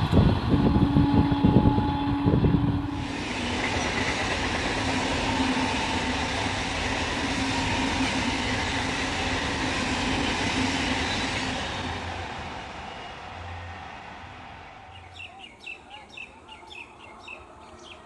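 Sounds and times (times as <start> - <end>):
train wheels on rails: 0.0 - 15.8.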